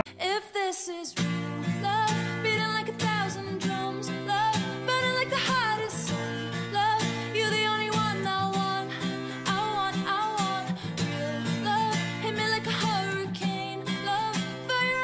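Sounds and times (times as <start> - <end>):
person singing: 0.0 - 15.0
song with strummed guitar: 1.1 - 15.0.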